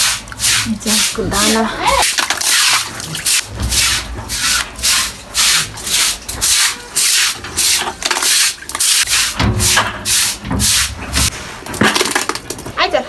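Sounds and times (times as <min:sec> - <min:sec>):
stiff brush scrubbing floor: 0:00.0 - 0:11.7.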